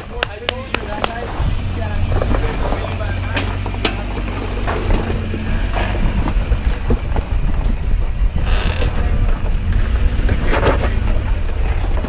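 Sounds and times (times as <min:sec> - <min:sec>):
vehicle engine rumbling: 0:00.0 - 0:12.0
wind buffeting microphone: 0:00.0 - 0:12.0.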